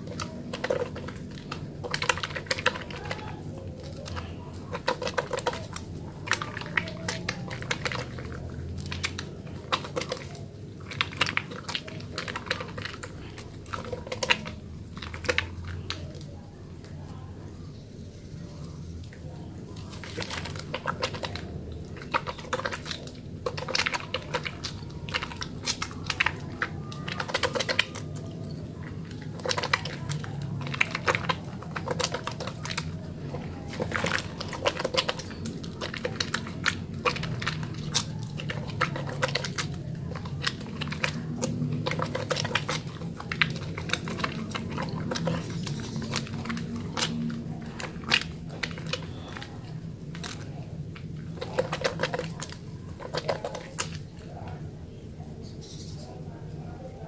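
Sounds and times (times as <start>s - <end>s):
wet soap lathered in hands: 0.0s - 55.3s.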